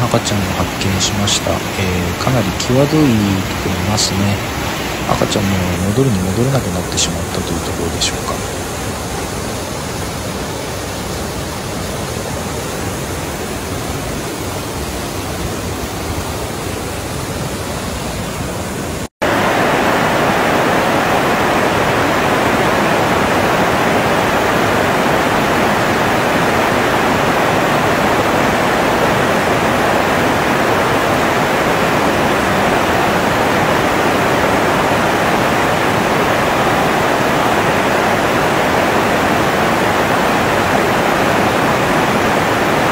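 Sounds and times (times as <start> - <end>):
stream rushing over boulders: 0.0 - 42.9.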